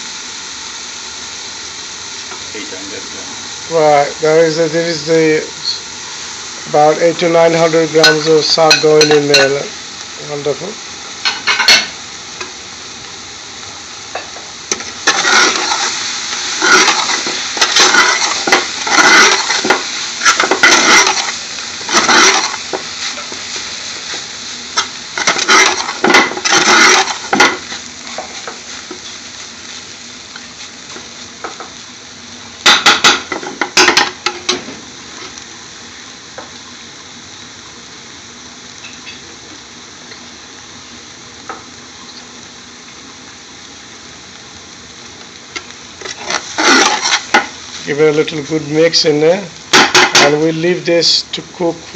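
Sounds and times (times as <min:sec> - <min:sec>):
vegetables sizzling in oil: 0:00.0 - 0:51.9.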